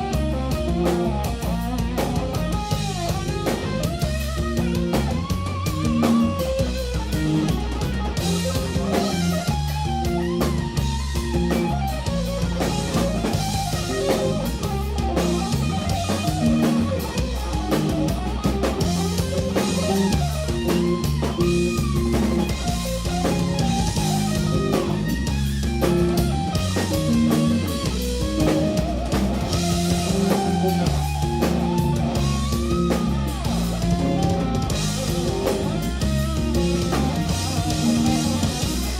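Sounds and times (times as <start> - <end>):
bass guitar riff: 0.0 - 38.9
drum kit with busy cymbals: 0.0 - 38.9
electric guitar melody: 0.0 - 38.9.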